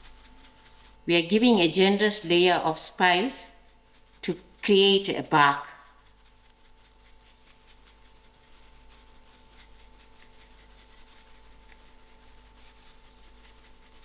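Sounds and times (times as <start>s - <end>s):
low electrical hum: 0.0s - 14.0s
spice shaken from a shaker box: 0.0s - 14.0s.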